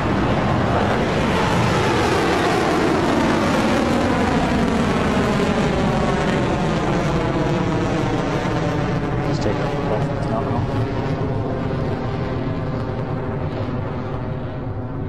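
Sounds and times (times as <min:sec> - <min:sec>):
rocket engines roaring: 0:00.0 - 0:15.0.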